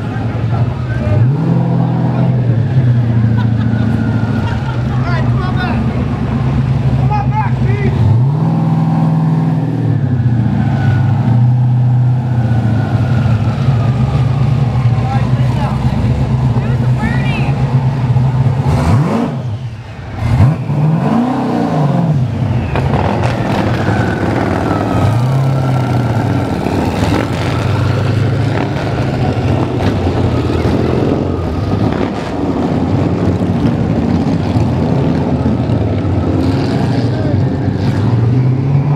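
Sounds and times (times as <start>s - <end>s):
motorcycle engines running: 0.0s - 20.7s, 21.6s - 38.9s
car engine revving: 0.0s - 38.9s.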